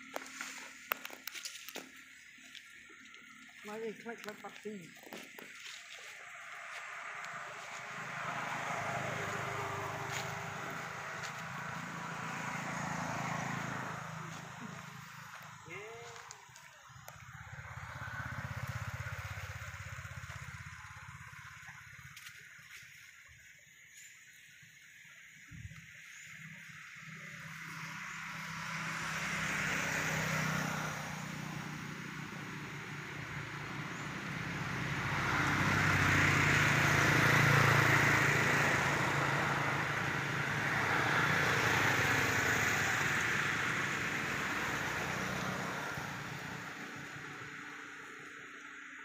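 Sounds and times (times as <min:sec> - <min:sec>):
small engine passing by: 0:00.1 - 0:22.8, 0:25.2 - 0:49.0.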